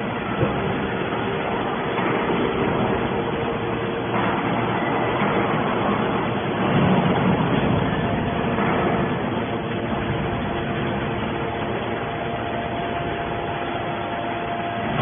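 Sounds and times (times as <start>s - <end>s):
baler machine running: 0.0s - 15.0s
faint steady hum: 0.0s - 15.0s.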